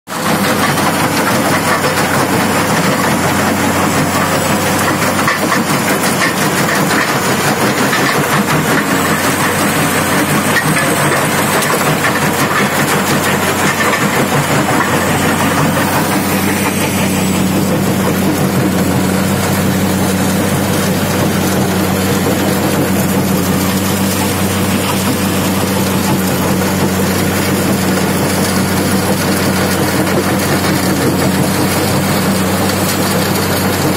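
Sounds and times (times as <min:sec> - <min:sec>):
diesel engine drone: 0:00.1 - 0:33.9
machine hum: 0:00.2 - 0:33.9
rock rattling and grinding: 0:00.4 - 0:32.0.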